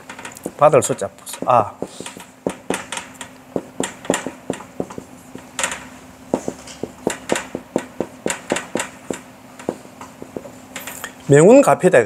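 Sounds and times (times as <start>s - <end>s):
marker writing on whiteboard: 0.4s - 10.6s.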